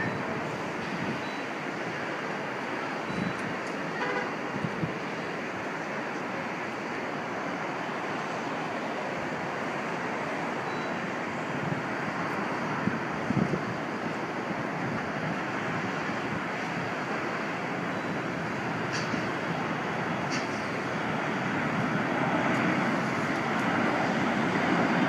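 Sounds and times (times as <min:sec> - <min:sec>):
distant traffic: 0:00.0 - 0:25.0
low wind buffets: 0:00.0 - 0:25.0
wind rushing on microphone: 0:00.0 - 0:25.0.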